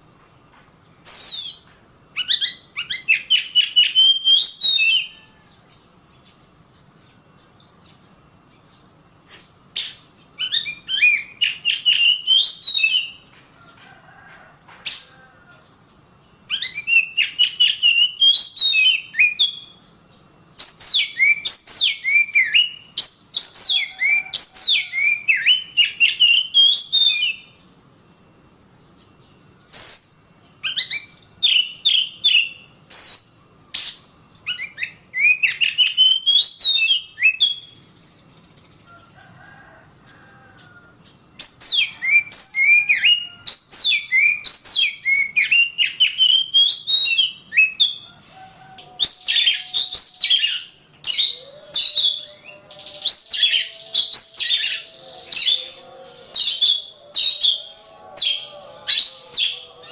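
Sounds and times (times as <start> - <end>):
bird singing whistled notes: 1.0 - 8.9, 9.8 - 13.3, 16.4 - 19.9, 20.6 - 27.6, 29.7 - 38.9, 41.4 - 59.9.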